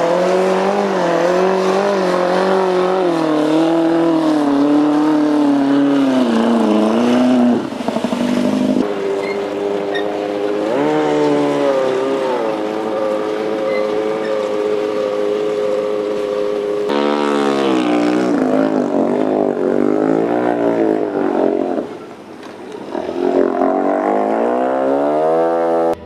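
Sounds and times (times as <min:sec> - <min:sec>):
outboard motor revving: 0:00.0 - 0:26.0.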